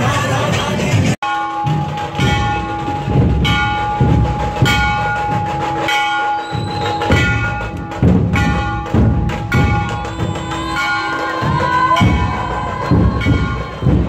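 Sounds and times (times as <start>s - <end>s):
deep drum beats: 0.5s - 14.0s
bell-like metallic strikes: 1.2s - 14.0s.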